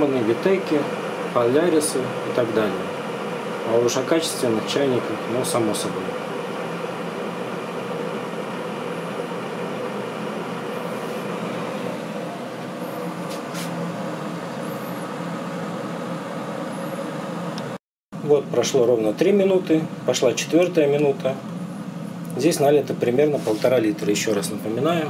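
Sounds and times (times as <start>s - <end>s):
electric kettle heating water: 0.0s - 23.2s.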